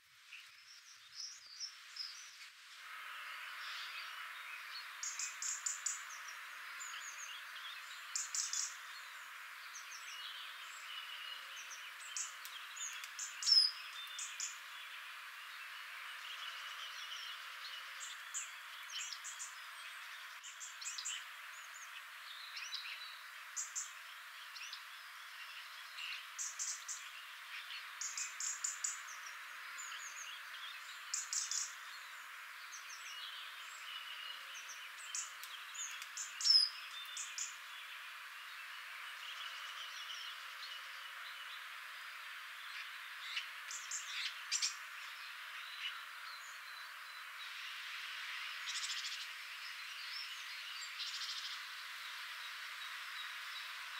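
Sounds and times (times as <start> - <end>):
small birds chirping: 0.0 - 53.9
steady background hiss: 0.0 - 53.9.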